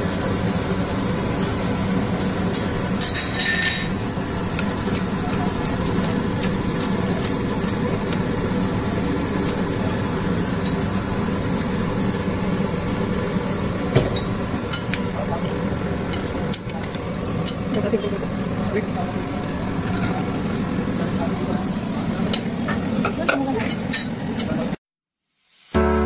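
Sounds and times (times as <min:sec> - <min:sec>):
low mechanical hum: 0:00.0 - 0:24.8.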